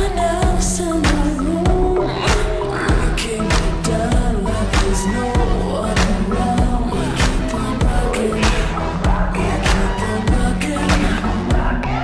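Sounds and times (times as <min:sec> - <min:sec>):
deep kick drums: 0:00.0 - 0:12.0
pop music: 0:00.0 - 0:12.0.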